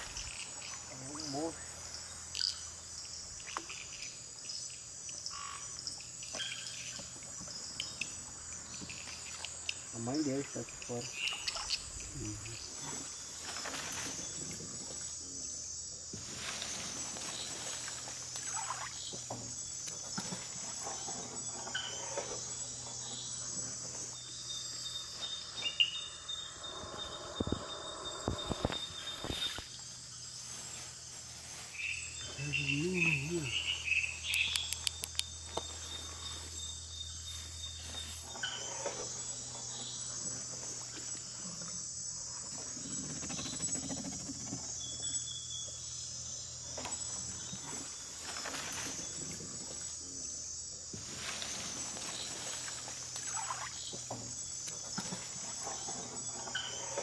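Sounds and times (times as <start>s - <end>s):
night insects chirring: 0.0s - 57.0s.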